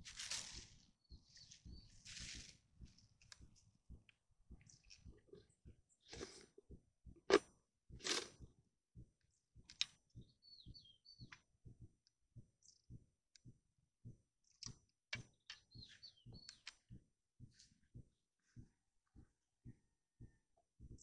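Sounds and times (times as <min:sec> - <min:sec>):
small bird chirping: 0:00.0 - 0:07.2, 0:09.3 - 0:13.6, 0:14.4 - 0:21.0.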